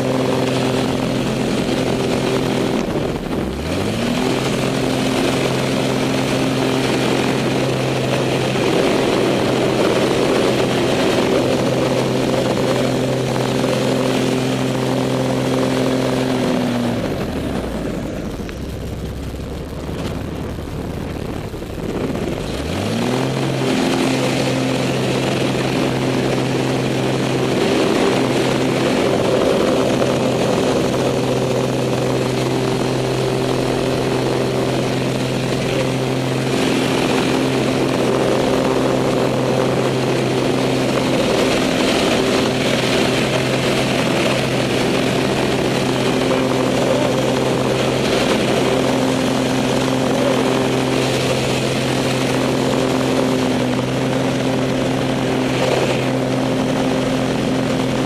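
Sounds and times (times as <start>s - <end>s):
propeller plane engine: 0.0s - 58.0s
rushing wind noise: 0.0s - 58.0s.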